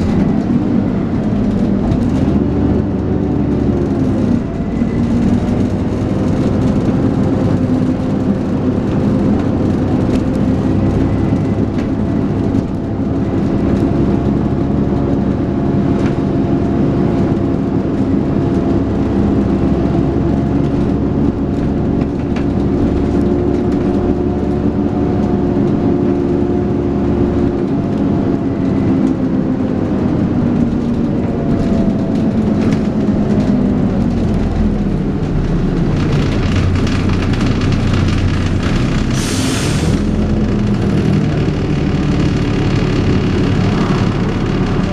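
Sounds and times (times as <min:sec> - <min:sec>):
bus engine pulling hard: 0:00.0 - 0:44.9.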